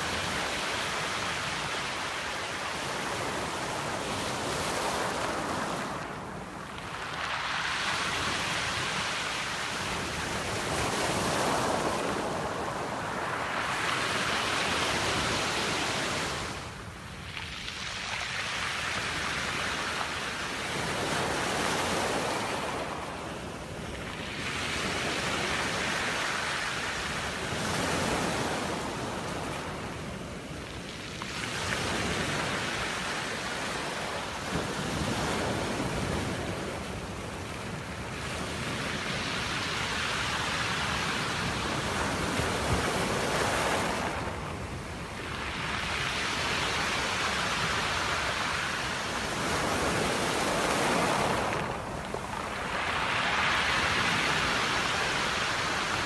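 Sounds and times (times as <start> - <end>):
waves breaking on pebble beach: 0.0 - 56.0.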